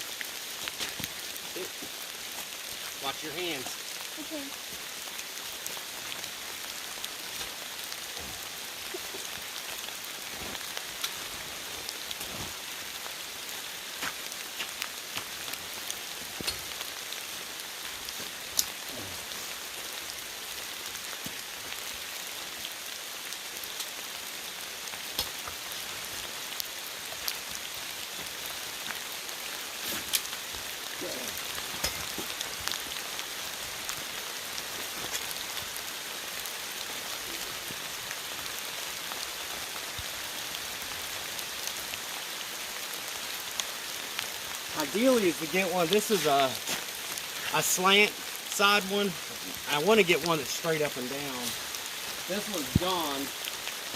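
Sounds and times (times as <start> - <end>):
heavy rain pouring: 0.0 - 53.9
raindrops tapping close by: 0.0 - 53.9.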